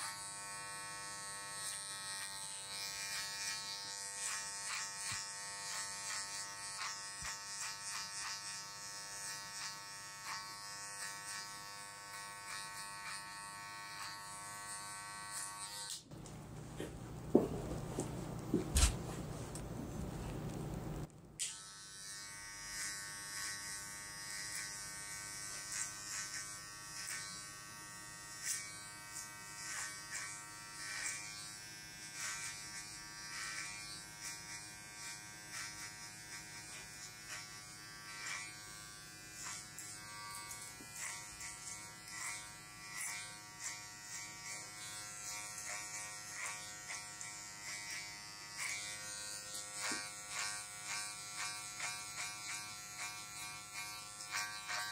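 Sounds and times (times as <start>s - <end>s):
clipper rasping through hair: 0.0s - 16.4s, 21.4s - 27.4s, 28.4s - 38.8s, 39.4s - 54.9s
electric hair clipper humming: 0.0s - 19.7s, 20.7s - 54.9s.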